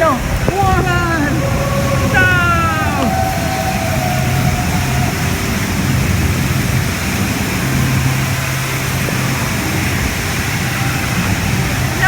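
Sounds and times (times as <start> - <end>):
water rushing and splashing: 0.0 - 12.0
low hum: 0.2 - 12.0.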